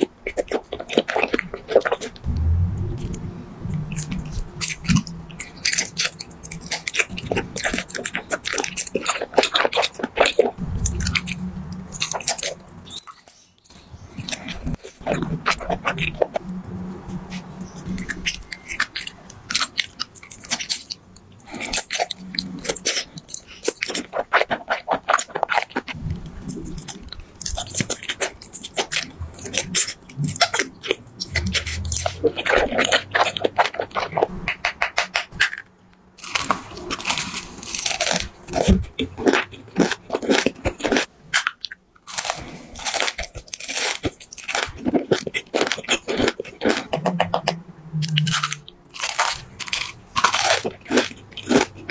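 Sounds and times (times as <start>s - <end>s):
crunchy food chewing: 0.0s - 2.3s, 3.0s - 16.4s, 17.1s - 51.9s.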